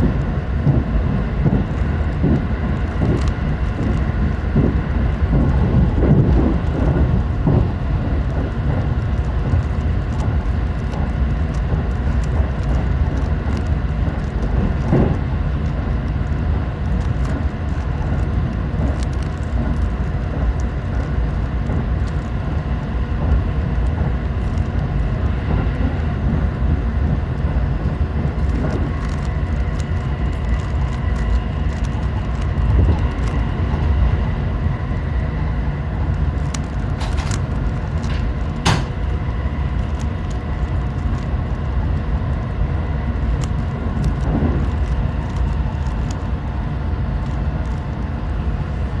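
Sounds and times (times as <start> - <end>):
electric train rumble: 0.0 - 49.0.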